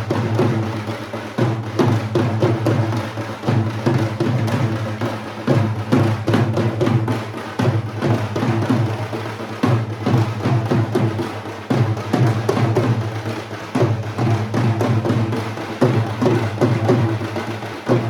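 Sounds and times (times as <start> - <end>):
samba band drumming: 0.0 - 18.0.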